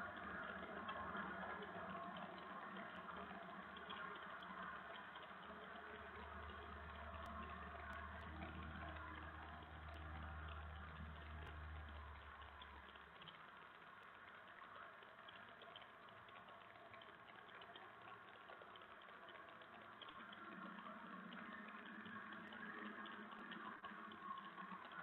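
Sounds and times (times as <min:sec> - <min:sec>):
faint low hum: 0:00.0 - 0:25.0
faint ticks: 0:00.0 - 0:25.0.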